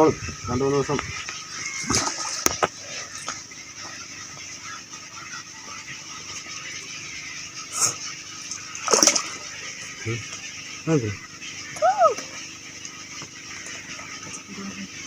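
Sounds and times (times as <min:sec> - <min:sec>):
water splashing and sloshing: 0:00.9 - 0:05.2, 0:05.8 - 0:15.0.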